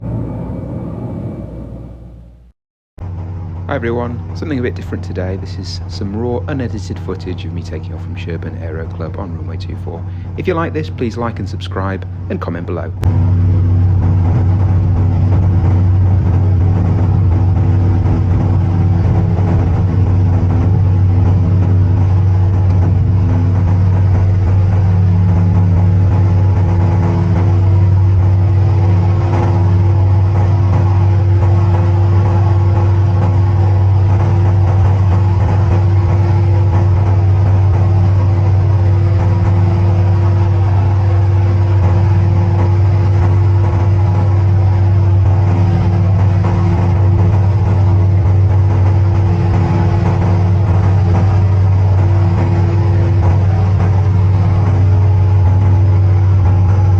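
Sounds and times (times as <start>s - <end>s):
aircraft piston engine drone: 0.0s - 56.9s.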